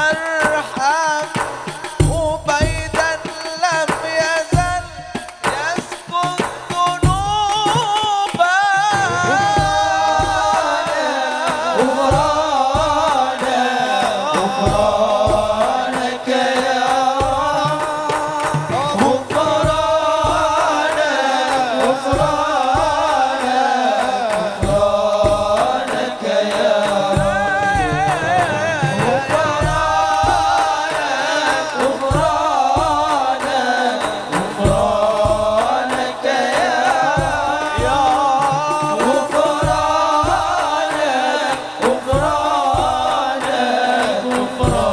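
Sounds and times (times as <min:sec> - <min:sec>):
man singing ornamented melody: 0:00.0 - 0:44.9
low drum beat: 0:04.4 - 0:44.9.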